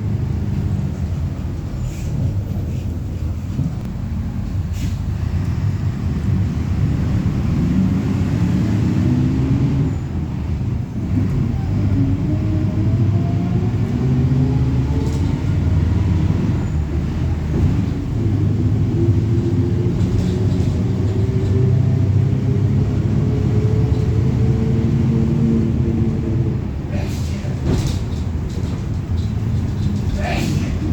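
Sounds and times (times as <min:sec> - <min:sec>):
bus diesel engine accelerating: 0:00.0 - 0:30.9.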